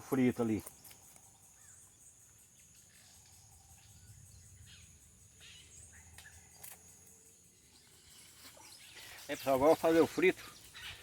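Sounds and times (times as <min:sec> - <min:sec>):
insect drone: 0:00.0 - 0:11.0
faint bird chirps: 0:00.1 - 0:11.0.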